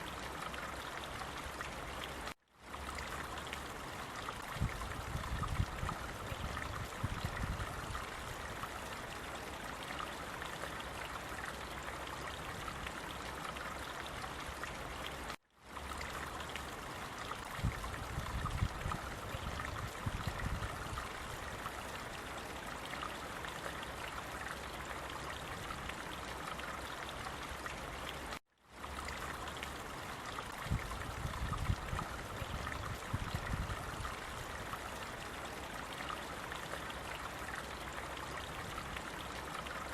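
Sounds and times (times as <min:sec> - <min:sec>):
stream water rushing and trickling: 0:00.0 - 0:39.9.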